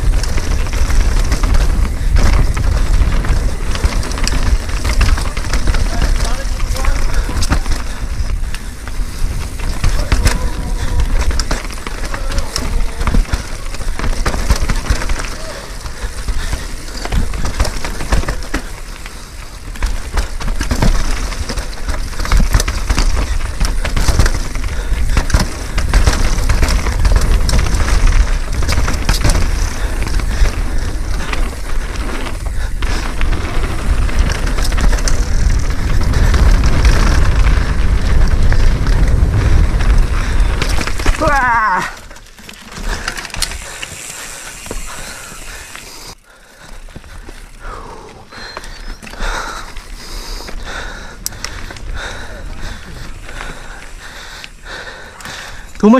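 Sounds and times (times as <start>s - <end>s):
wind buffeting microphone: 0.0s - 41.9s, 49.1s - 55.8s
bike rattling and knocking: 0.0s - 55.9s
tyres crunching over dirt and rock: 0.0s - 55.9s.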